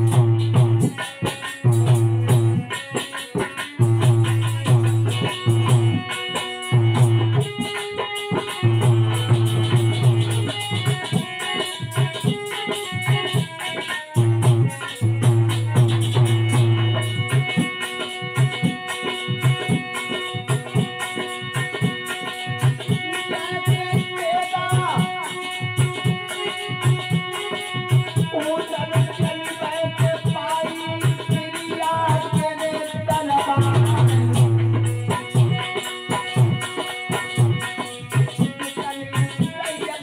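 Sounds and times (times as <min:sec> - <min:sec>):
hand-drum beat: 0:00.0 - 0:40.0
harmonium playing chords and melody: 0:00.0 - 0:40.0
rattling cymbals: 0:00.0 - 0:40.0.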